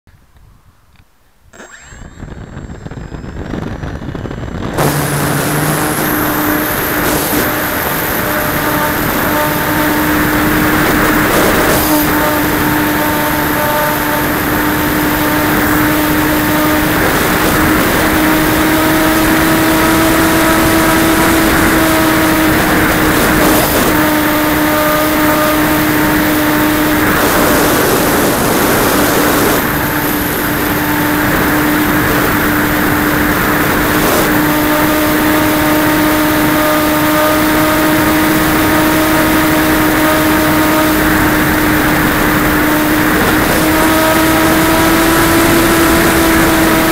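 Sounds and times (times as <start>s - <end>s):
model plane motor hum: 1.5s - 46.9s
heavy wind rush: 1.8s - 46.9s.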